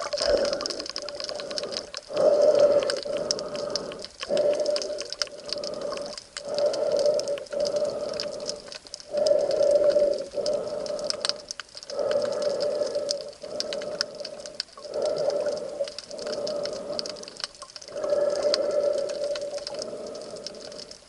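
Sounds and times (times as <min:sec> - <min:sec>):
faint crackle of clicks: 0:00.0 - 0:21.0
underwater breathing: 0:00.0 - 0:21.0.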